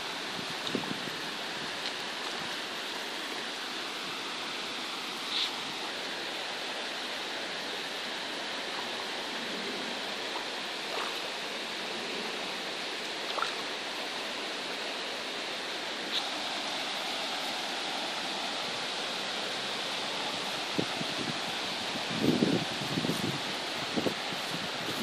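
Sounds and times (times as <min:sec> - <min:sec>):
stream flowing water: 0:00.0 - 0:25.0.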